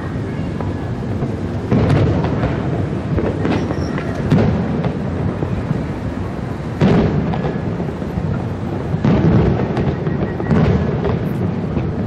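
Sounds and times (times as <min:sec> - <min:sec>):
continuous rumble: 0:00.0 - 0:12.0
fireworks booming and crackling: 0:00.0 - 0:12.0.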